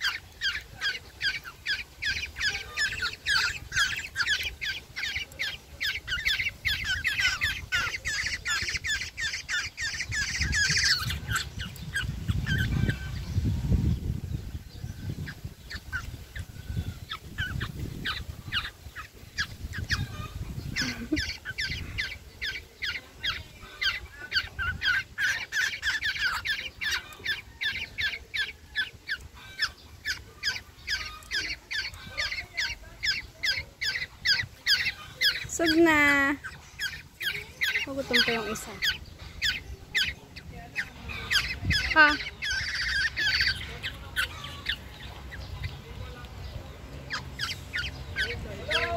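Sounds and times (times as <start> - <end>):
bird fledglings squawking: 0.0 - 48.9.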